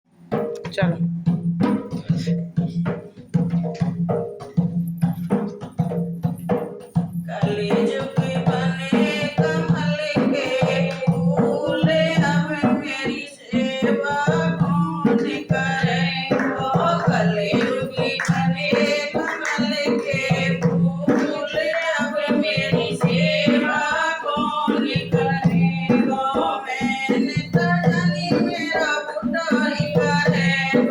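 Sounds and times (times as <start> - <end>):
instrumental accompaniment: 0.1 - 30.9
percussion strokes: 0.2 - 30.9.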